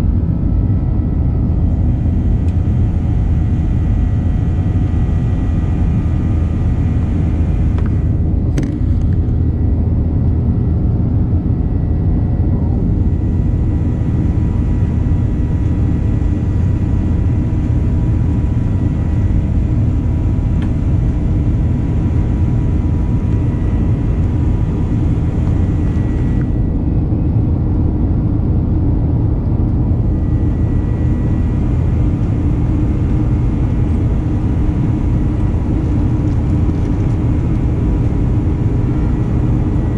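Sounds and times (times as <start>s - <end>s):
airplane cabin low rumble: 0.0s - 39.9s
faint steady whine: 0.0s - 39.9s.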